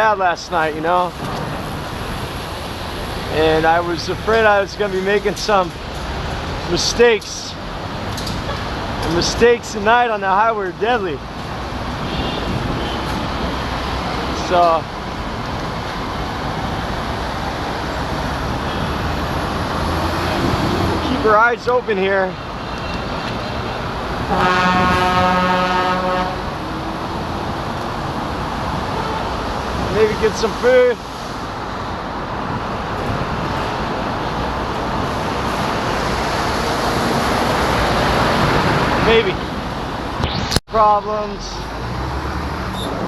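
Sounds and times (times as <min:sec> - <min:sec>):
road traffic noise: 0:00.0 - 0:43.0.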